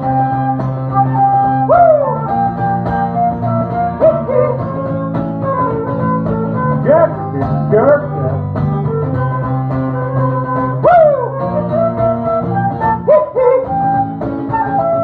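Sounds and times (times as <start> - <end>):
flute playing: 0.0 - 15.0
guitars playing: 0.0 - 15.0.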